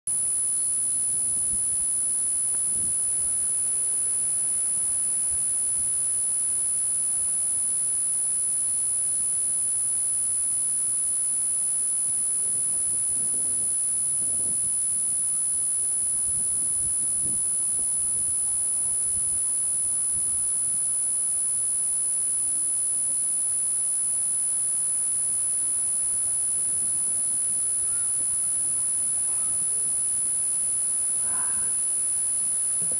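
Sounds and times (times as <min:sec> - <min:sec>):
faint outdoor background noise: 0:00.1 - 0:32.9
high-pitched electronic whine: 0:00.1 - 0:32.9.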